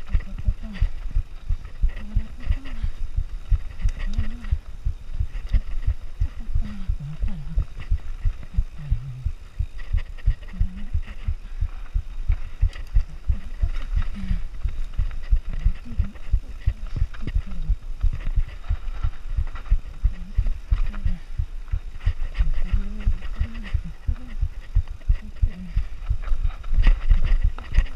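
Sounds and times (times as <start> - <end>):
low rumble: 0.0 - 27.9.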